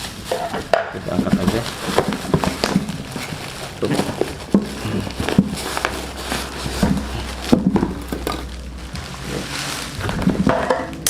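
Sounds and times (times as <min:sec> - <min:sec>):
packaging knocks and rustles: 0:00.0 - 0:11.0.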